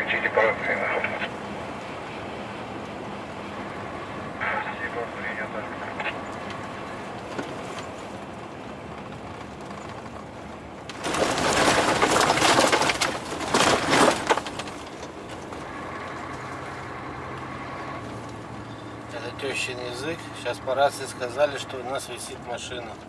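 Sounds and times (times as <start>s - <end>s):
truck cab engine and tyre drone: 0.0s - 23.0s.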